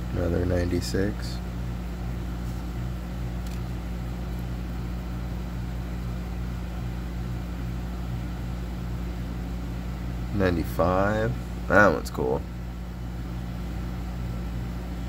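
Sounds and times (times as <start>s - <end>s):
low mechanical hum with throb: 0.0s - 15.0s.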